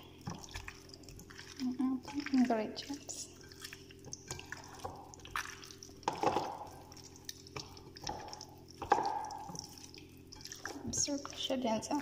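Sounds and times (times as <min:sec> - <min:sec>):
hands squelching raw chicken: 0:00.0 - 0:12.0.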